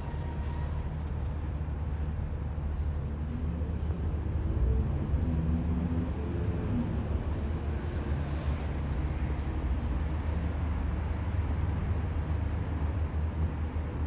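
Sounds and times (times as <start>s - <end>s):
faint engine hum: 0.0s - 14.0s
road traffic rumble: 0.0s - 14.0s.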